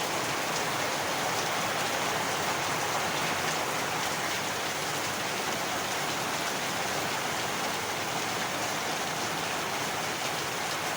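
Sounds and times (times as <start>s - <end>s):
heavy rain falling: 0.0s - 10.9s.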